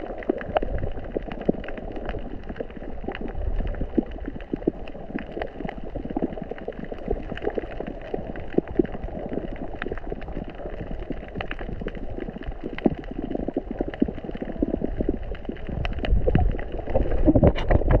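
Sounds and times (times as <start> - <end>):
underwater rumble of moving water: 0.0 - 18.0.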